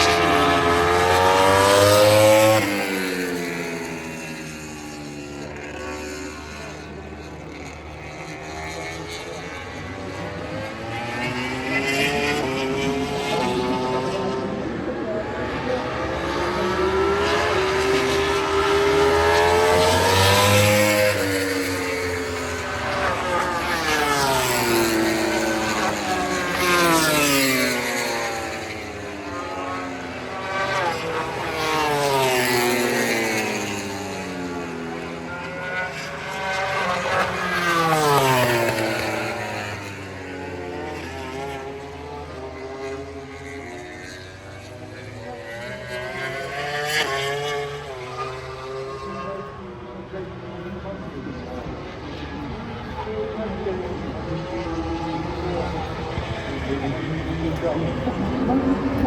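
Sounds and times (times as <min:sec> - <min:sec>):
racing motorcycles passing: 0:00.0 - 0:59.0.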